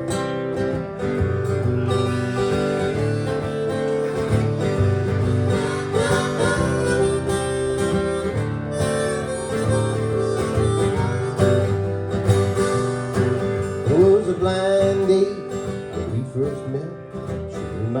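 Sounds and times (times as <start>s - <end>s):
blues harmonica: 0.0s - 17.6s
acoustic guitar: 0.0s - 18.0s.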